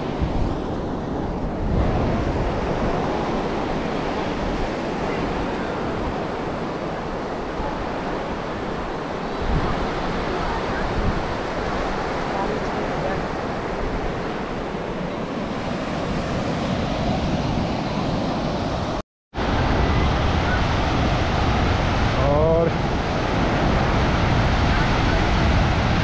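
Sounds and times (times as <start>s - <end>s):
surf washing up a beach: 0.0s - 26.0s
wind buffeting microphone: 0.0s - 26.0s.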